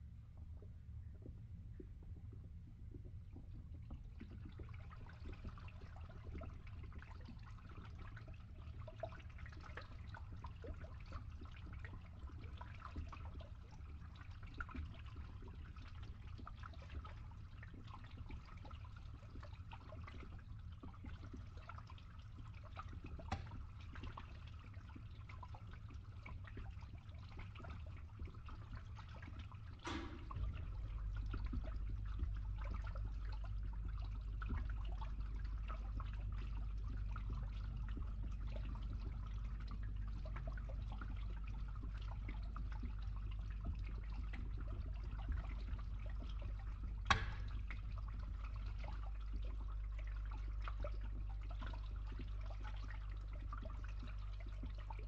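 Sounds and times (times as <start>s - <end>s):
low pump hum: 0.0s - 55.0s
water draining through pipe: 0.0s - 55.0s
water drips: 0.3s - 55.0s.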